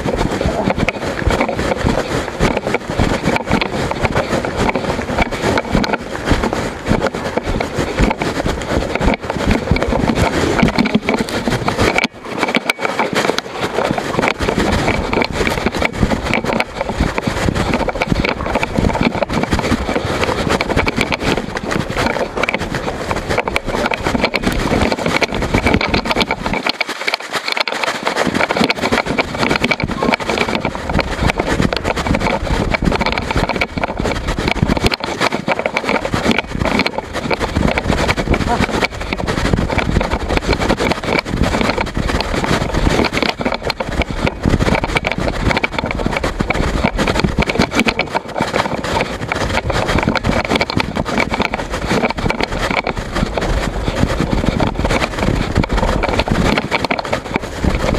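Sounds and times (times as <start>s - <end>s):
loose camera rattling and knocking: 0.0s - 57.9s.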